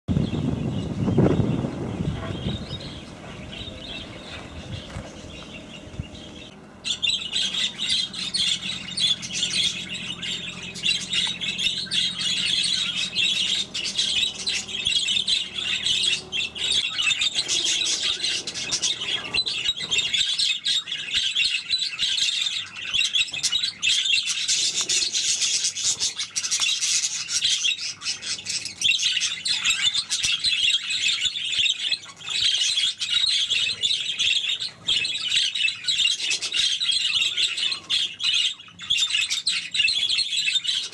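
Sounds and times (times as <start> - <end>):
budgerigars chattering: 0.3 - 40.9.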